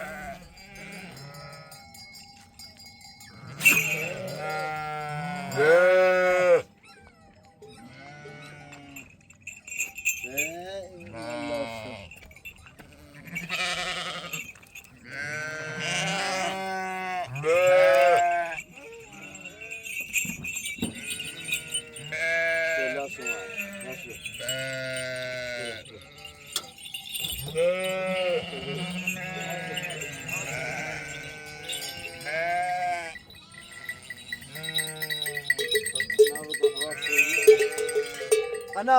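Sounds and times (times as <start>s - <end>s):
sheep bleating: 0.0s - 1.9s, 3.4s - 6.7s, 7.8s - 9.1s, 10.3s - 12.2s, 12.8s - 20.1s, 20.9s - 26.7s, 27.3s - 38.9s.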